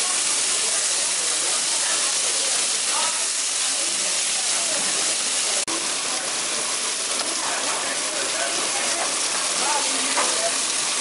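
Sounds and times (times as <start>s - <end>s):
fish sizzling on grill: 0.0s - 11.0s.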